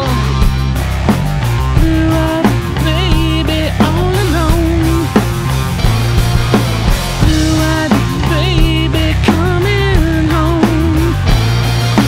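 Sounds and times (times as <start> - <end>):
drum kit beat: 0.0 - 12.0
rock music: 0.0 - 12.0.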